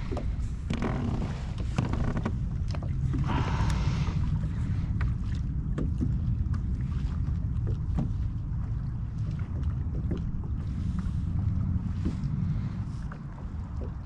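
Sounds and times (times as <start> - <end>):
water slosh: 0.0 - 14.0
waves lapping against hull: 0.0 - 14.0
wind buffeting microphone: 0.0 - 14.0.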